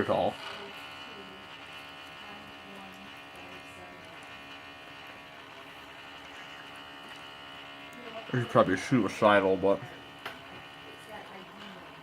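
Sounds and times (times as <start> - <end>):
hard drive buzzing whine: 0.0 - 12.0.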